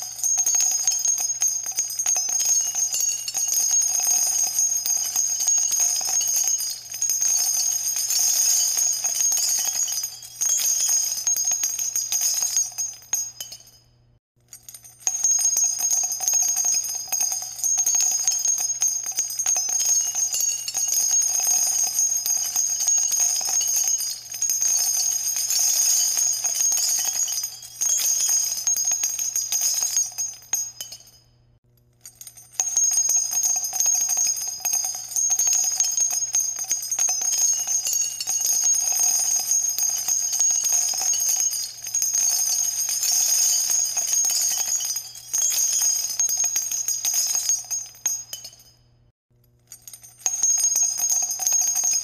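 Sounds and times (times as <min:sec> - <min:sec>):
music with jingling bells: 0:00.0 - 0:13.8, 0:15.1 - 0:31.2, 0:32.6 - 0:48.8.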